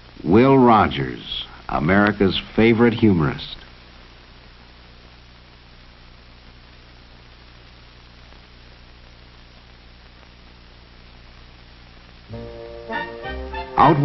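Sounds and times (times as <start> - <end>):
electrical mains hum: 0.0 - 14.0
tape hiss: 0.0 - 14.0.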